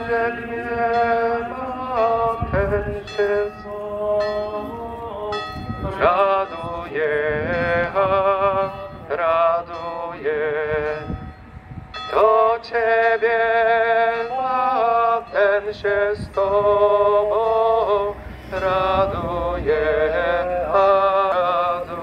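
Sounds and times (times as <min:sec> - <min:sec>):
person singing a hymn over loudspeakers: 0:00.0 - 0:22.0.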